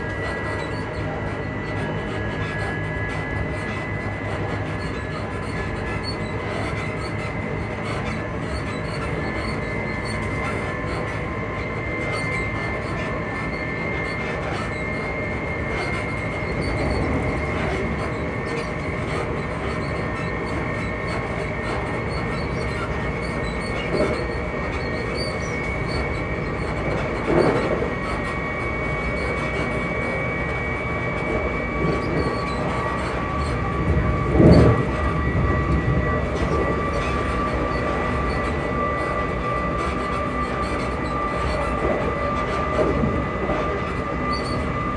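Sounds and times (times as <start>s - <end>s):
train motors whining: 0.0s - 44.9s
train running rumble: 0.0s - 44.9s.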